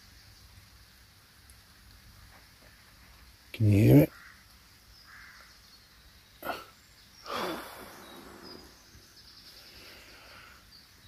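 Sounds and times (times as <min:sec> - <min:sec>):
faint birdsong: 0:00.0 - 0:11.0
light rain on leaves: 0:00.0 - 0:11.0.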